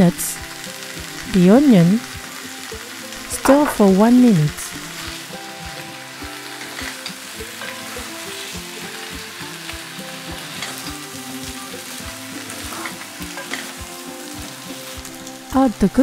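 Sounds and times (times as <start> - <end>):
food sizzling in frying pan: 0.0 - 16.0.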